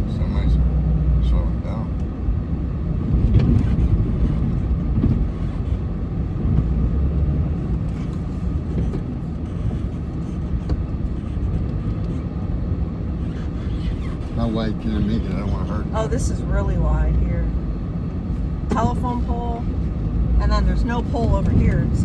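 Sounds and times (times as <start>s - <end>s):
truck engine droning: 0.0s - 22.0s.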